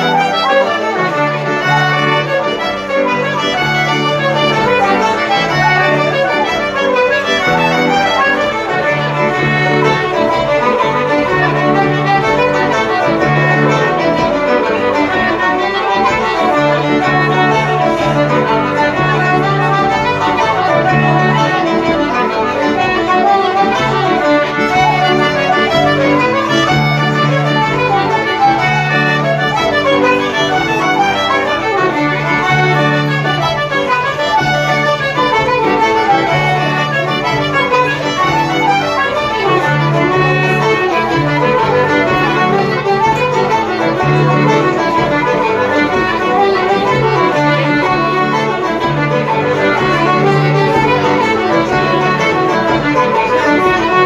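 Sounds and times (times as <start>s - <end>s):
concertina: 0.0s - 54.0s
fiddle: 0.0s - 54.0s
flute: 0.0s - 54.0s
tenor banjo: 0.0s - 54.0s.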